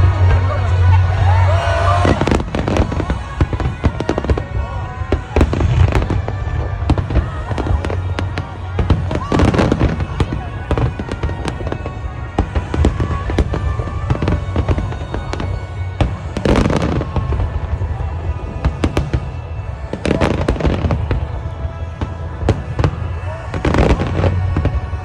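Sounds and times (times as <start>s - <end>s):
fireworks crackling bangs: 0.0s - 25.0s.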